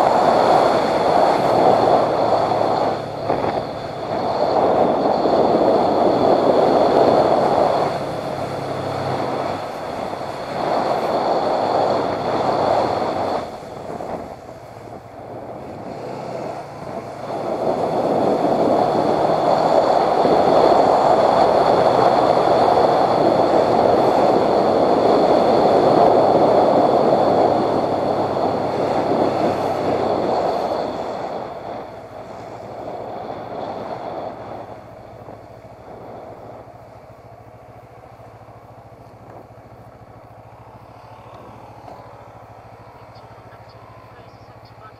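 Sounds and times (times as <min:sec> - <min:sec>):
motorcycle engine hum: 0:00.0 - 0:44.9
wind and road noise: 0:00.0 - 0:44.9.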